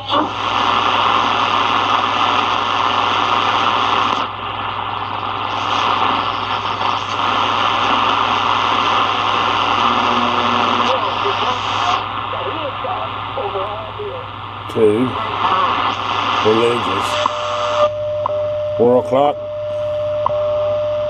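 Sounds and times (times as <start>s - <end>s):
radio static hissing: 0.0s - 18.0s
steady low hum: 0.0s - 21.0s.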